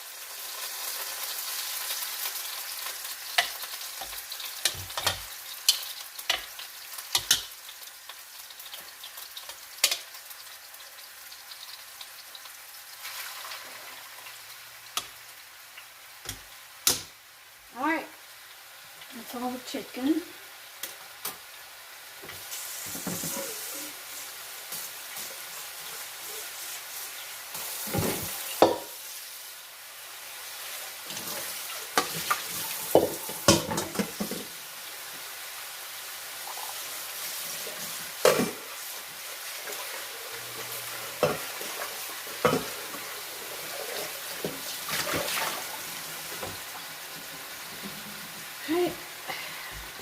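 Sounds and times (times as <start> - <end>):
chicken sizzling in a pan: 0.0 - 50.0.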